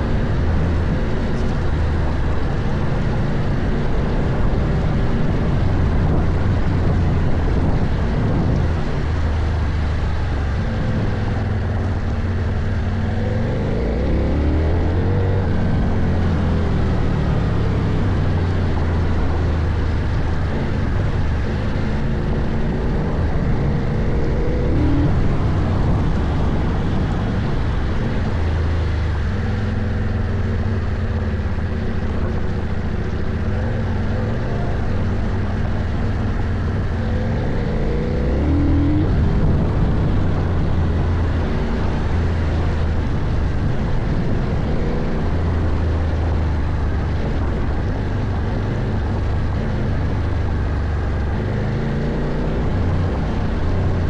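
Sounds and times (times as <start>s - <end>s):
motorcycle engine revving: 0.0s - 54.0s
motorcycle engine running under load: 0.0s - 54.0s.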